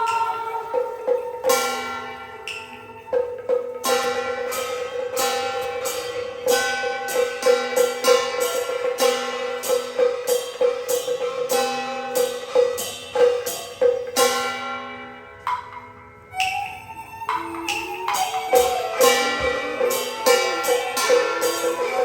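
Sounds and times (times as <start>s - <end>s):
percussion ensemble playing: 0.0s - 22.0s.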